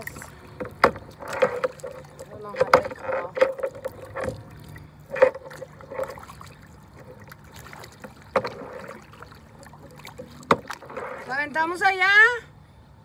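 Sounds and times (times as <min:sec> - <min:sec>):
paddle splashing water: 0:00.0 - 0:11.8.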